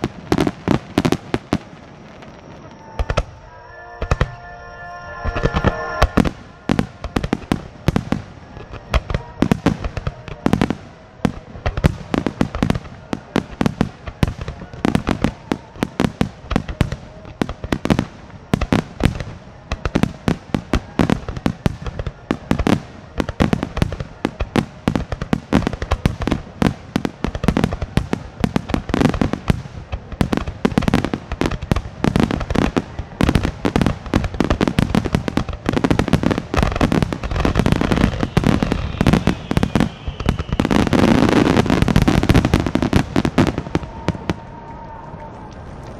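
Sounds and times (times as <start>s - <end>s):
fireworks bursting in a barrage: 0.0s - 4.5s, 5.1s - 45.8s.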